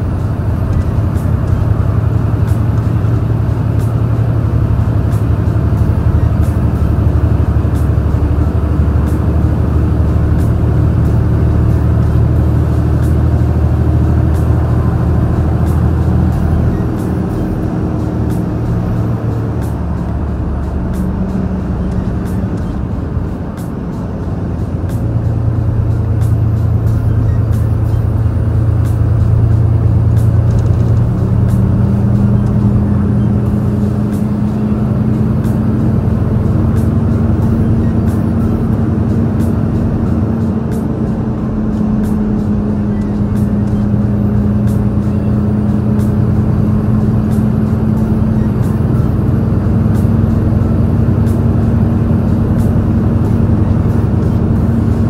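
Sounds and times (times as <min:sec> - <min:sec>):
truck diesel engine droning: 0:00.0 - 0:55.0.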